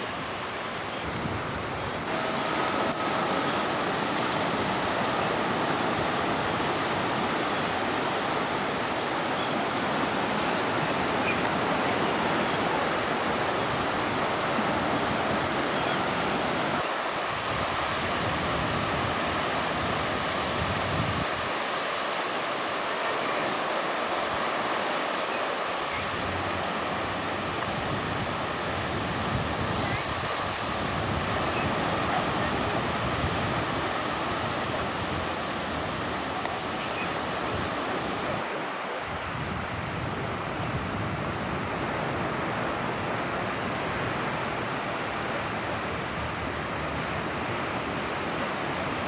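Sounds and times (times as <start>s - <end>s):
sea waves: 0.0s - 49.0s
wind: 0.0s - 49.0s.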